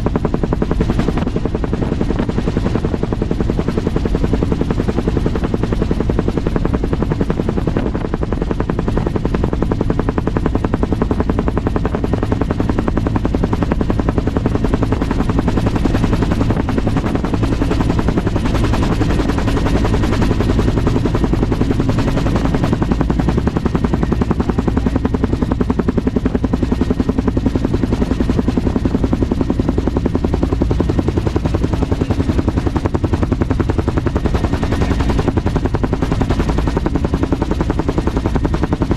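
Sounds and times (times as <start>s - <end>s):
helicopter rotor chopping: 0.0s - 38.9s.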